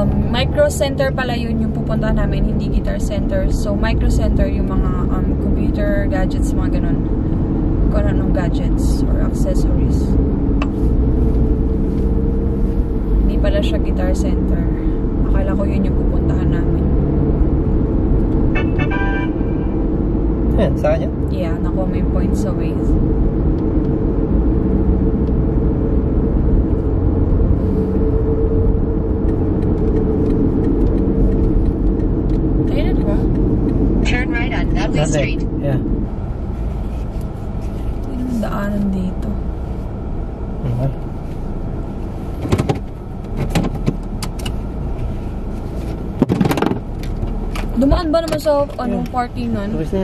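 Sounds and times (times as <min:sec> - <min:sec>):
car road and engine rumble: 0:00.0 - 0:50.0.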